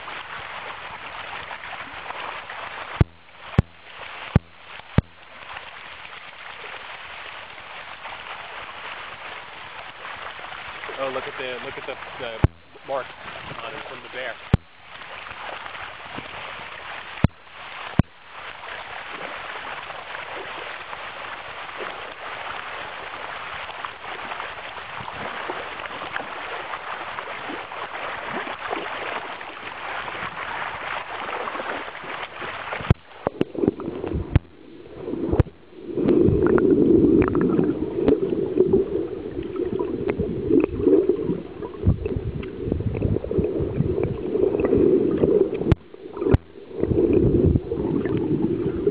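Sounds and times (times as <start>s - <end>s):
fish splashing in water: 0.0s - 48.9s
underwater gurgling: 0.0s - 48.9s.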